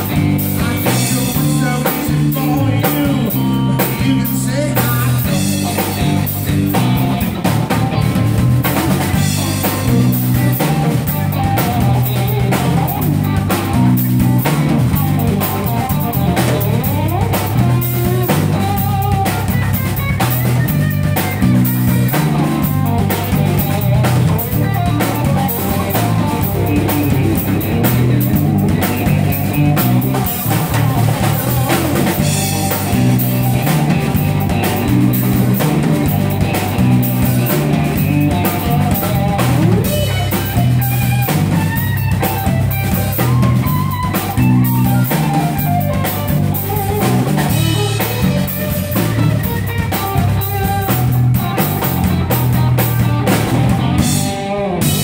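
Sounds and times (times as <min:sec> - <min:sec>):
drum kit: 0:00.0 - 0:55.0
electric bass line: 0:00.0 - 0:55.0
electric guitar lead lines: 0:00.0 - 0:55.0.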